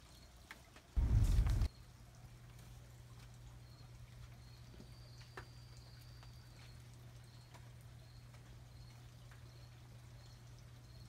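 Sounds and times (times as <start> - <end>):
low steady hum: 1.0 - 11.0.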